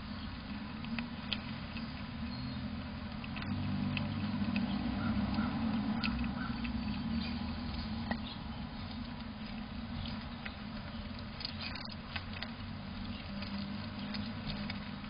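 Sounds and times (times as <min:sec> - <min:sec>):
squirrel chewing seed: 0:00.0 - 0:15.0
steady low hum: 0:00.0 - 0:15.0.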